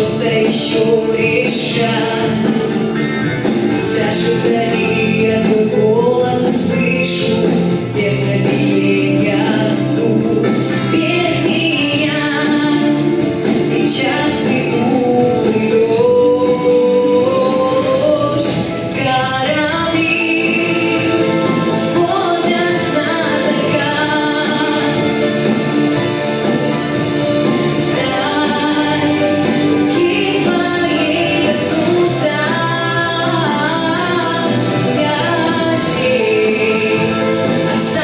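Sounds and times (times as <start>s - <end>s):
person singing a song: 0.0s - 26.4s, 27.5s - 38.0s
instrumental accompaniment: 0.0s - 38.0s.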